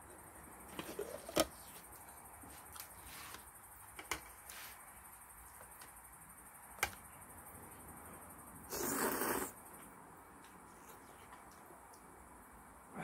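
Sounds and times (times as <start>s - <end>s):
low steady background: 0.0s - 13.0s.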